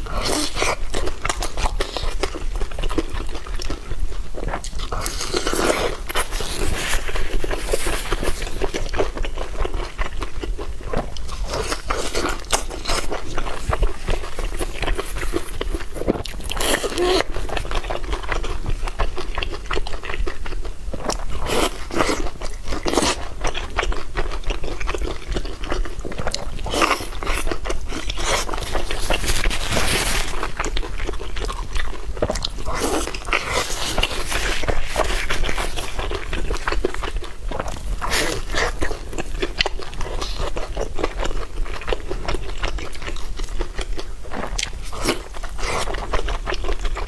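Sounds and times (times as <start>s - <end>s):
biting and chewing crisp food: 0.0s - 47.0s.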